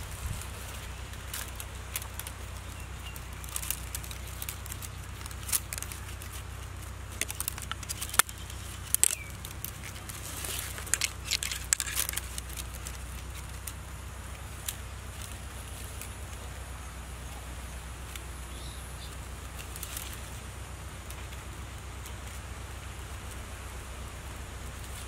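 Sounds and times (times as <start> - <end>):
steady low hum: 0.0 - 25.0
vine strands clicking and rustling: 0.0 - 25.0.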